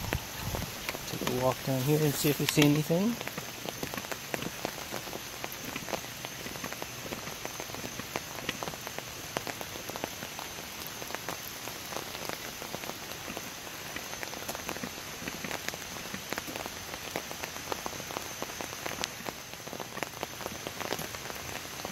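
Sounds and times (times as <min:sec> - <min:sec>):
close raindrop hits: 0:00.0 - 0:21.9
steady rain: 0:00.0 - 0:21.9.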